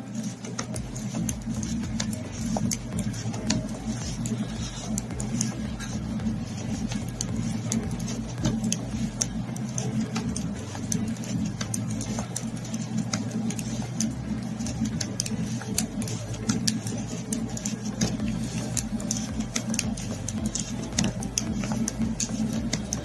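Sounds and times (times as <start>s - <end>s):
knitting needles clicking: 0.0s - 23.0s
steady low hum: 0.0s - 23.0s.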